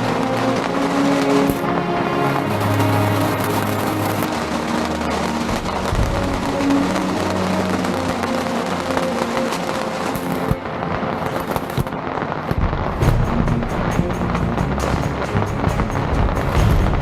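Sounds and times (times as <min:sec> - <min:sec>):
firecrackers crackling: 0:00.0 - 0:17.0
hissing rockets: 0:00.0 - 0:17.0.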